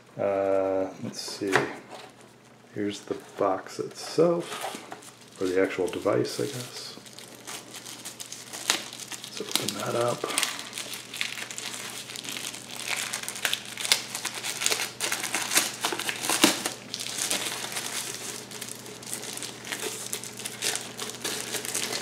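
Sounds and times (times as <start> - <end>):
plastic bag crinkling: 4.2 - 22.0.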